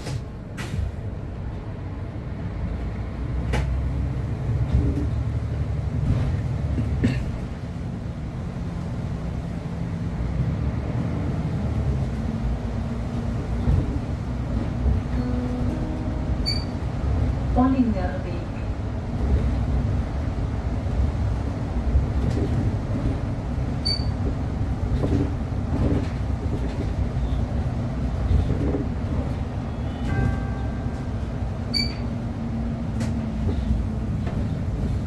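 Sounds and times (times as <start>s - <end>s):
bus cabin rumble and road noise: 0.0s - 35.0s.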